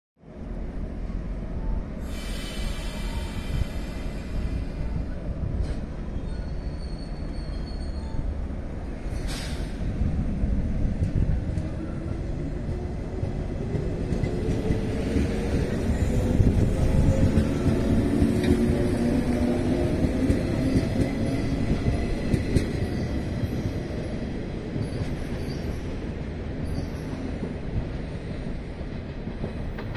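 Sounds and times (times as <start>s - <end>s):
wheels rumbling on rail: 0.4s - 29.9s.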